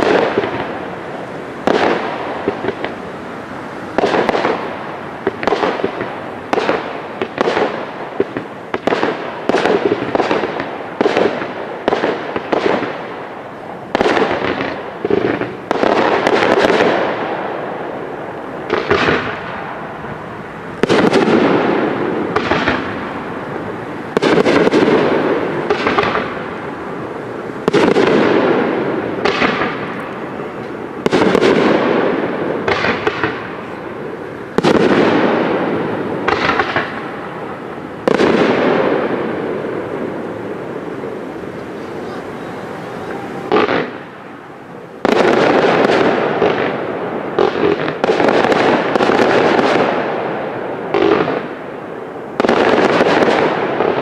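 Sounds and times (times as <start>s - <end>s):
firework bangs: 0.0s - 54.0s.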